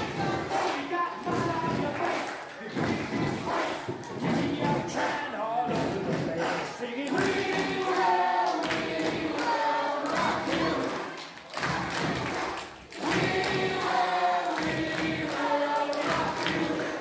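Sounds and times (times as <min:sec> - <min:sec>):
young voices singing in unison: 0:00.0 - 0:05.3, 0:06.1 - 0:17.0.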